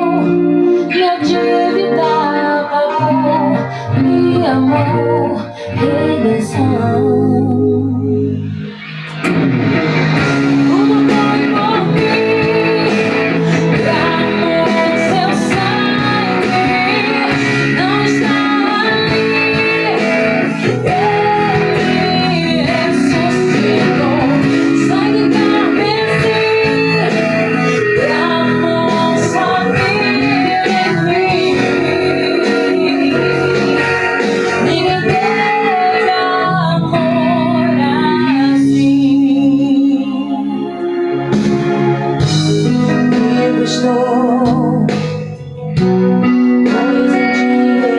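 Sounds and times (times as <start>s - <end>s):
woman singing gospel song: 0.0s - 8.5s, 10.4s - 41.0s, 42.3s - 45.4s, 46.2s - 47.9s
guitar improvising: 0.0s - 47.9s.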